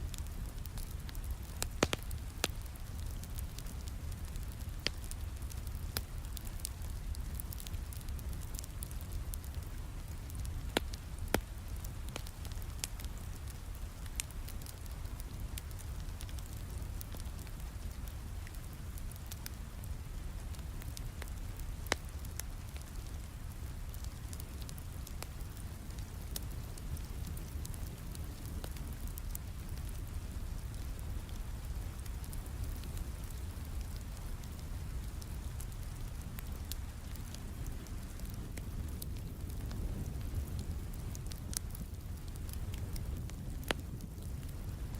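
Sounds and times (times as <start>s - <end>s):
steady rain: 0.0s - 44.9s
wood fire crackling: 0.0s - 44.9s
sharp pops of fire: 0.1s - 44.9s.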